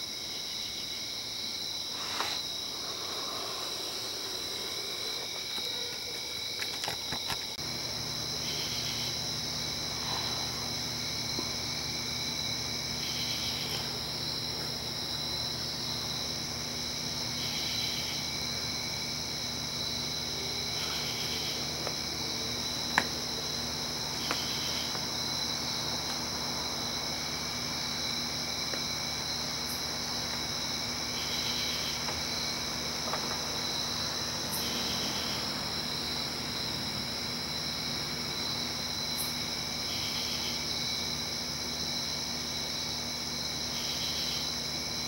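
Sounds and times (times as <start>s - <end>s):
crickets and night insects: 0.0s - 45.0s.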